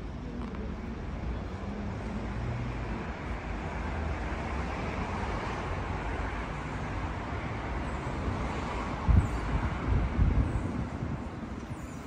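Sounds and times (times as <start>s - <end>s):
city road traffic rumble: 0.0s - 12.0s.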